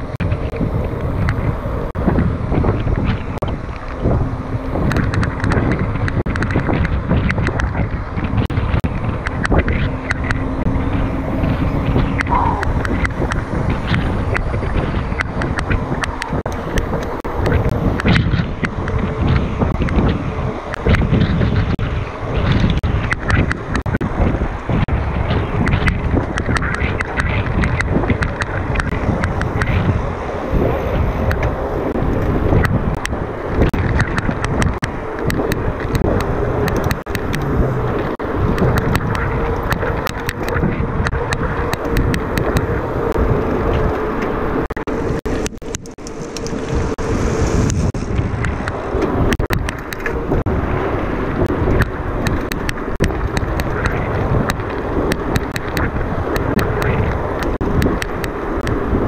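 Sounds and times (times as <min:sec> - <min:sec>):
bike tyres rattling on rough ground: 0:00.0 - 0:59.0.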